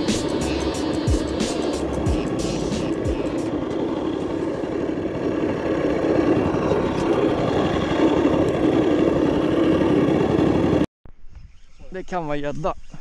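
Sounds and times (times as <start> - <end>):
outboard motor running: 0.0 - 10.9.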